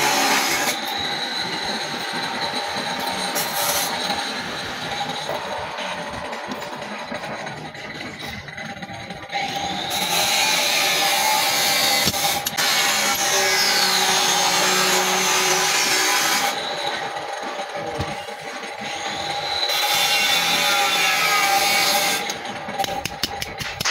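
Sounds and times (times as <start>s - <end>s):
machine running steadily: 0.0s - 23.9s
power tool cutting steel: 0.0s - 23.9s.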